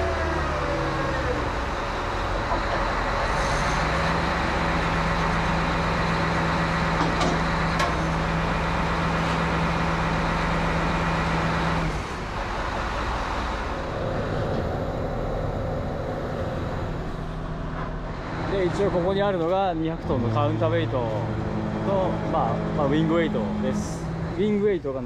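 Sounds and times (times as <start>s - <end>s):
crane engine running at raised revs: 0.0s - 25.0s.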